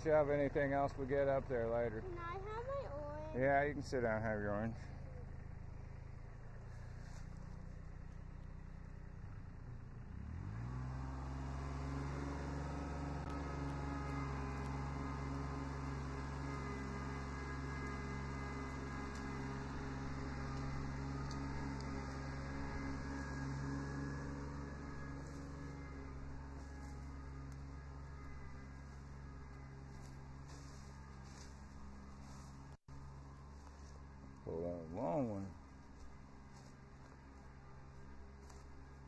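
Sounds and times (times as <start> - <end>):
tractor diesel engine revving: 0.0 - 39.0.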